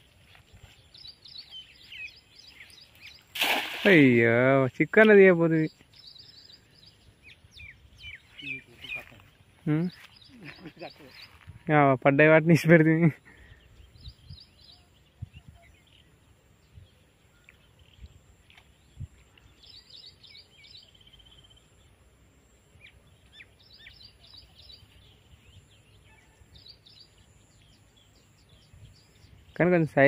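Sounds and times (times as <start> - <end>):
faint outdoor background noise: 0.0 - 30.0
small birds twittering: 0.0 - 30.0.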